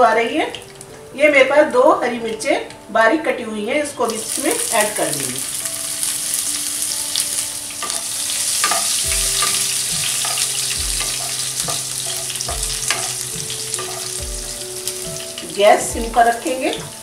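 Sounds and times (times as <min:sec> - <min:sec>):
chillies sizzling in hot oil: 0:00.0 - 0:17.0.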